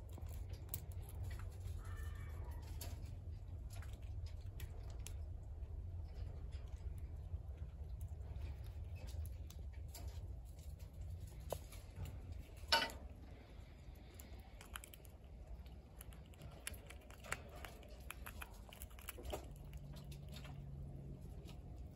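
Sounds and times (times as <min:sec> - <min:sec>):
squirrel gnawing walnut shell: 0:00.0 - 0:21.9.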